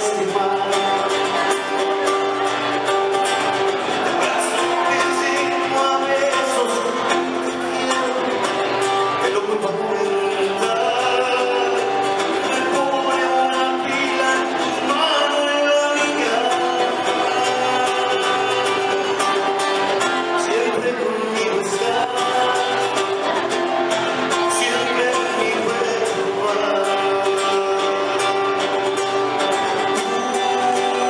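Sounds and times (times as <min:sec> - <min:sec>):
person singing: 0:00.0 - 0:31.0.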